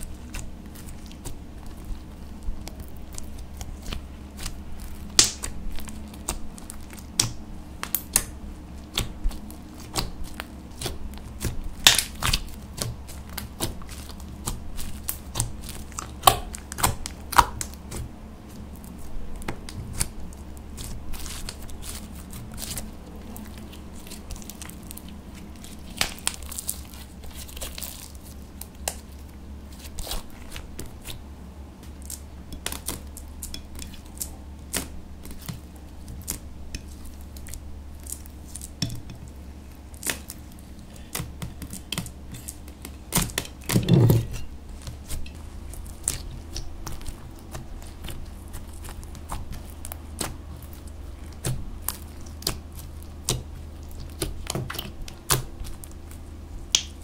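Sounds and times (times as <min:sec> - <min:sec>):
slime popping and crackling: 0:00.0 - 0:18.1, 0:18.8 - 0:31.2, 0:31.8 - 0:39.1, 0:39.9 - 0:57.0.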